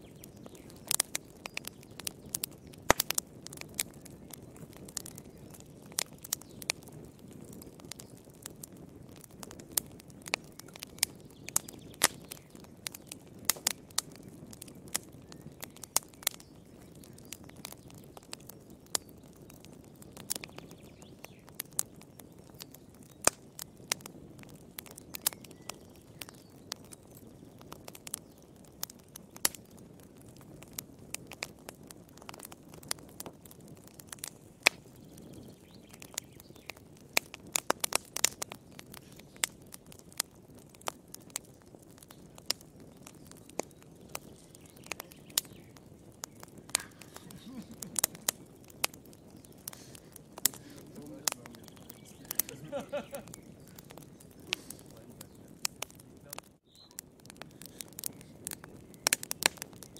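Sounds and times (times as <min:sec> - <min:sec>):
log fire crackling and popping: 0:00.0 - 0:59.9.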